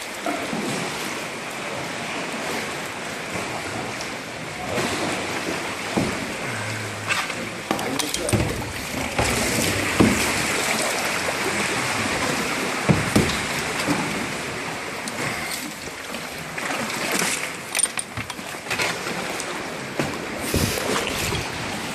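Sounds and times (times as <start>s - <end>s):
water sloshing around a kayak: 0.0s - 21.9s
water splashes: 0.0s - 21.9s.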